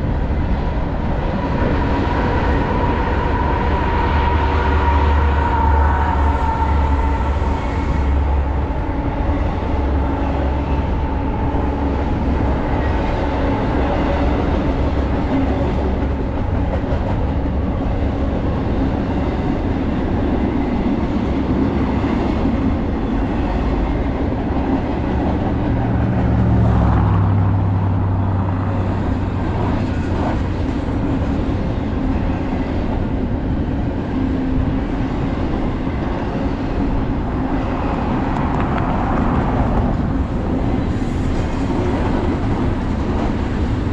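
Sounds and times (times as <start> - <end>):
diesel locomotive drone: 0.0 - 43.9
freight train rumbling on rails: 0.0 - 43.9.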